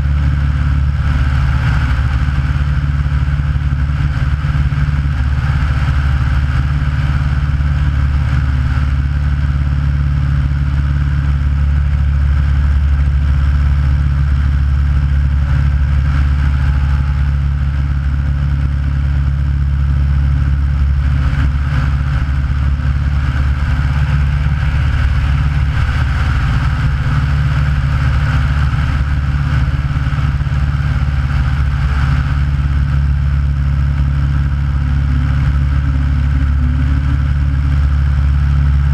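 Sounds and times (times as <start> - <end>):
light plane engine droning: 0.0 - 38.9.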